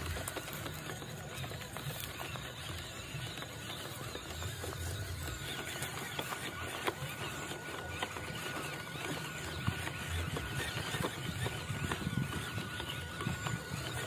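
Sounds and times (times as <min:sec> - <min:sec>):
electric motor and gearbox whine: 0:00.0 - 0:14.0
tyres clicking on stones: 0:00.0 - 0:14.0.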